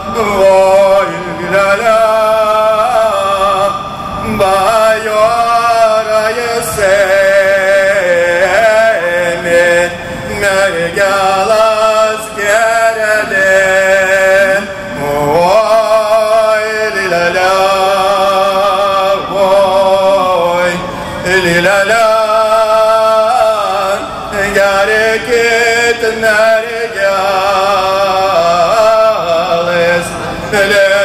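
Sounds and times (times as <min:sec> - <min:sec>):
folk-rock chanting: 0:00.0 - 0:31.0
steady low drone: 0:00.0 - 0:31.0.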